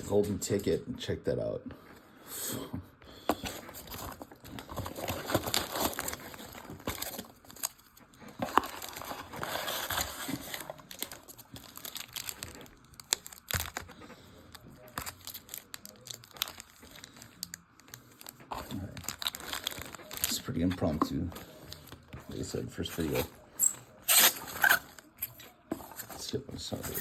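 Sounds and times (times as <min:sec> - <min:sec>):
packaging crinkling and tearing: 0:03.4 - 0:23.4, 0:24.0 - 0:27.0.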